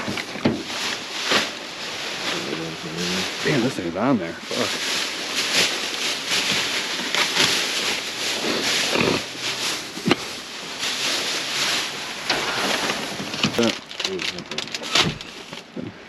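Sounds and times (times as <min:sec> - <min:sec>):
plastic bags rustling and crinkling: 0:00.0 - 0:16.0.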